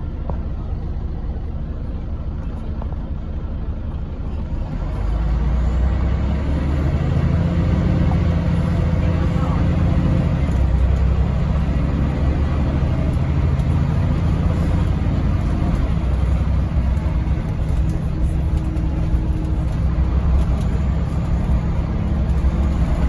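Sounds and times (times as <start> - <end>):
bus engine drone: 0.0 - 23.0
road noise and rattles: 0.0 - 23.0.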